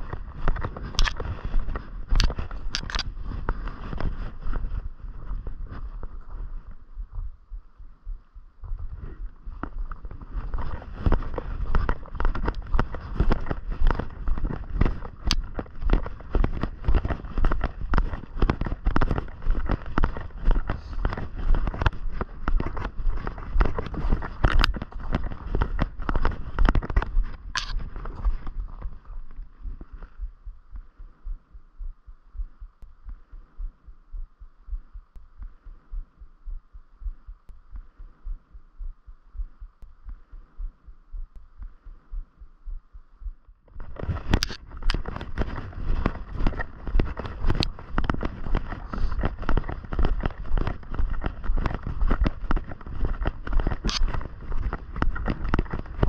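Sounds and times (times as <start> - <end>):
footsteps: 0.0 - 56.0.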